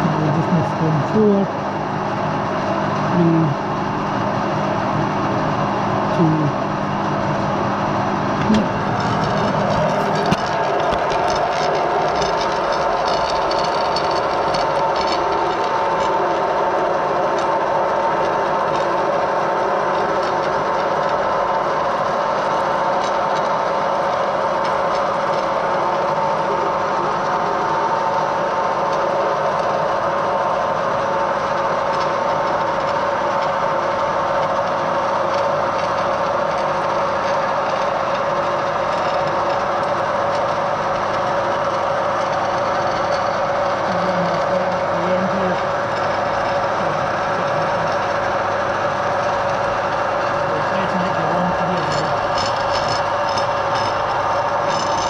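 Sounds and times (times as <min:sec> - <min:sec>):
metal lathe droning: 0:00.0 - 0:55.0.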